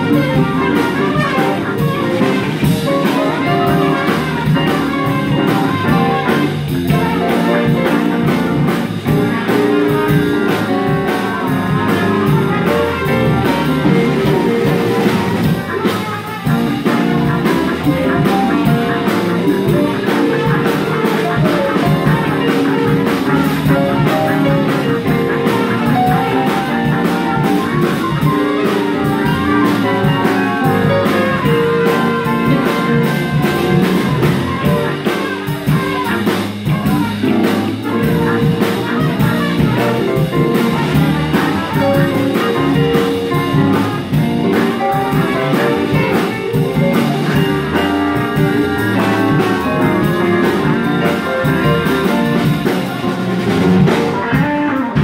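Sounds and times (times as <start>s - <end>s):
jazz combo playing: 0.0s - 55.0s
trumpet leading: 0.0s - 55.0s.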